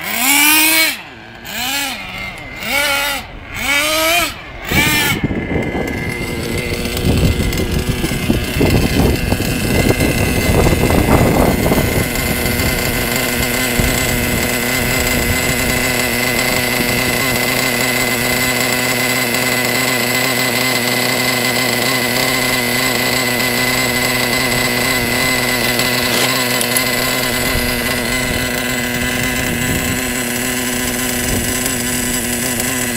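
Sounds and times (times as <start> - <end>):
model engine idling high-pitched: 0.0 - 32.9.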